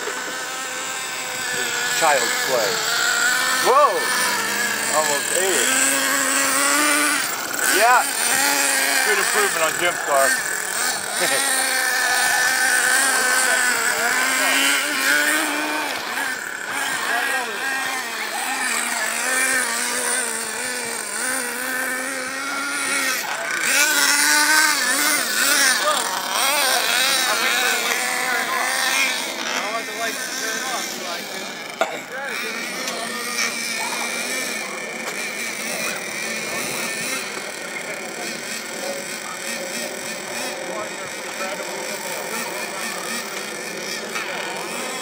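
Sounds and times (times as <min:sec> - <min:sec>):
toy truck motor buzzing: 0:00.0 - 0:45.0.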